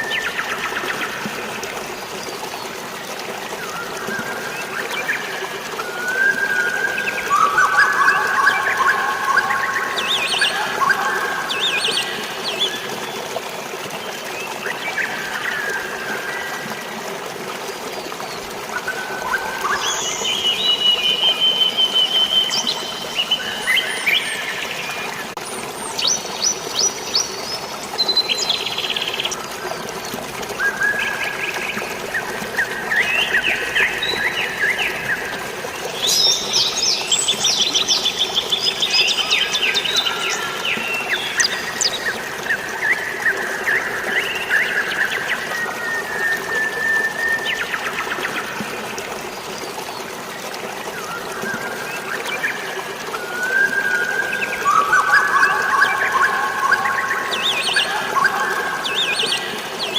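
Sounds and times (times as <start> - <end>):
waterfall: 0.0 - 59.9.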